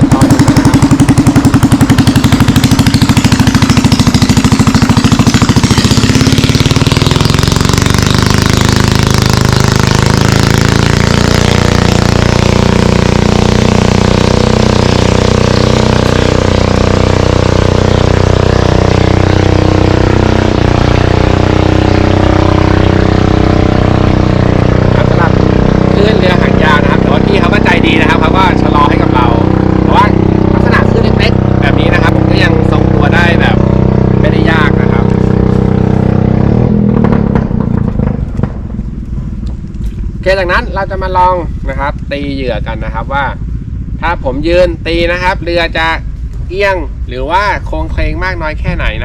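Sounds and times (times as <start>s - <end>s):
motorboat engine: 0.0s - 49.0s.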